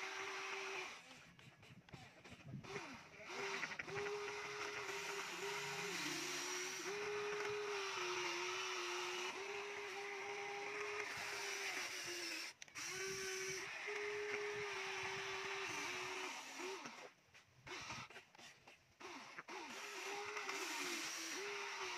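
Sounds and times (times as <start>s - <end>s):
toy excavator motors whining: 0.0s - 21.9s.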